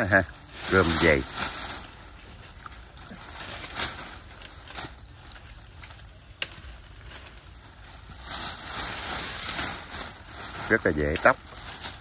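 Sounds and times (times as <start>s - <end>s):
soft handling rustles: 0.4s - 12.0s.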